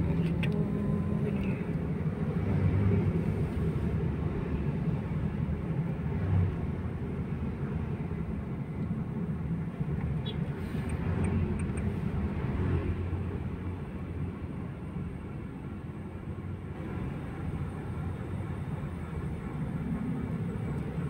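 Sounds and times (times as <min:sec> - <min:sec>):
car engine and tyres rumble: 0:00.0 - 0:21.0.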